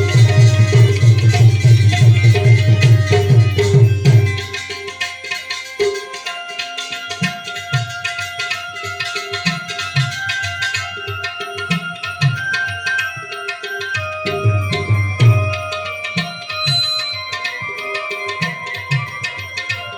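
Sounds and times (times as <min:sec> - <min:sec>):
devotional music with tabla: 0:00.0 - 0:19.9.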